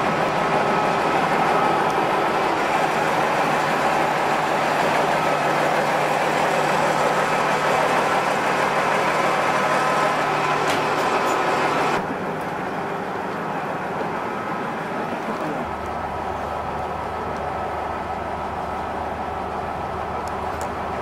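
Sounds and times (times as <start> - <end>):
diesel railcar engine idling: 0.0 - 21.0.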